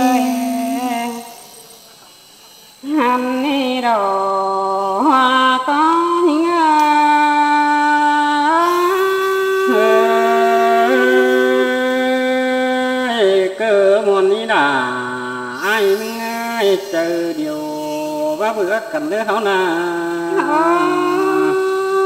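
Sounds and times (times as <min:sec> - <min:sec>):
person singing unaccompanied: 0:00.0 - 0:01.9, 0:02.8 - 0:22.0.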